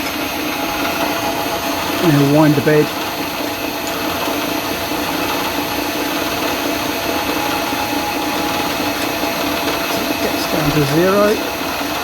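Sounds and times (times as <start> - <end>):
milling machine motor humming: 0.0 - 12.0.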